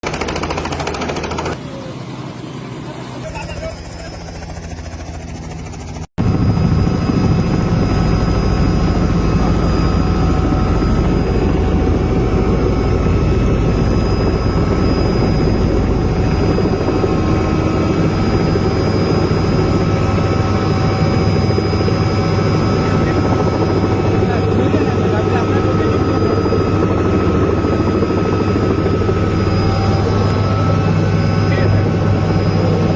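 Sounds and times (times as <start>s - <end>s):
helicopter engine and rotor: 0.0s - 32.9s.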